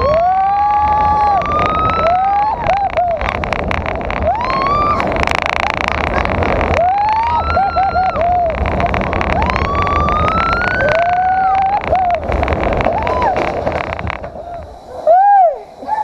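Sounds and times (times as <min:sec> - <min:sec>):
people screaming: 0:00.0 - 0:16.0
roller coaster rattling: 0:00.0 - 0:16.0
wind rushing: 0:00.0 - 0:16.0.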